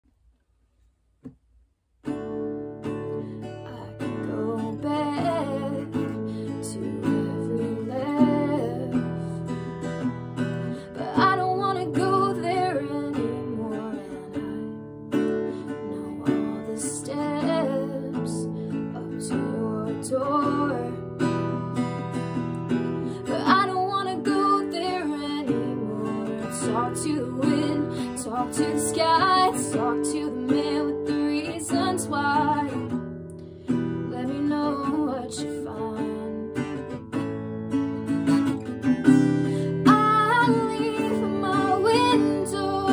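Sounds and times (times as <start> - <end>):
acoustic guitar: 2.0 - 42.9
woman singing: 2.9 - 33.1, 34.0 - 37.0, 39.0 - 42.9.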